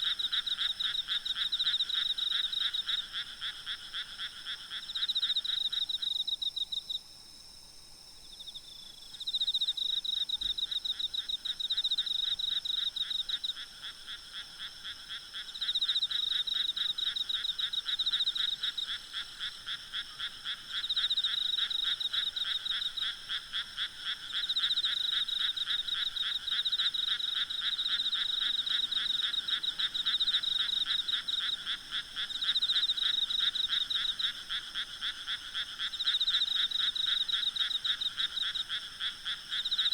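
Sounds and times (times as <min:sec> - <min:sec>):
frogs croaking: 0:00.0 - 0:07.0, 0:08.4 - 0:39.9.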